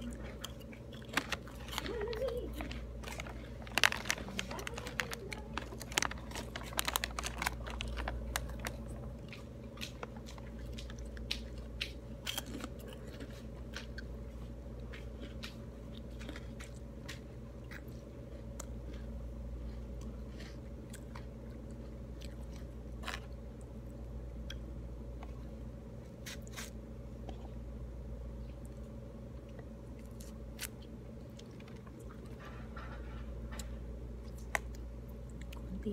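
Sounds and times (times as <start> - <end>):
chewing crunchy snack: 0.0 - 27.7, 28.4 - 35.8.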